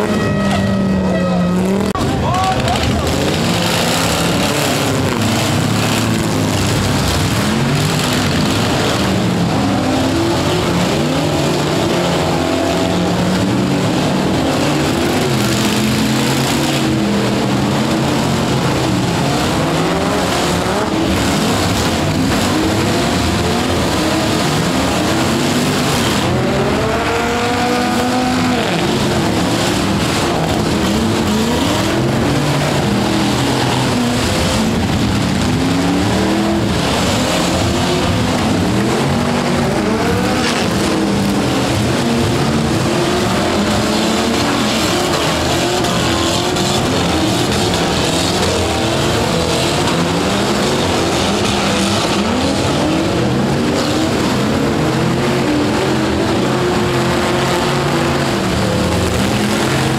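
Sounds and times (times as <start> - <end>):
truck engines revving hard: 0.0 - 59.9.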